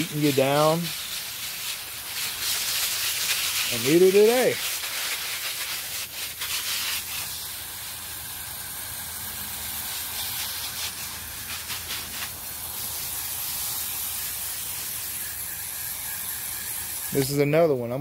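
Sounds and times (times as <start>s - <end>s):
hose nozzle hissing: 0.0s - 17.7s.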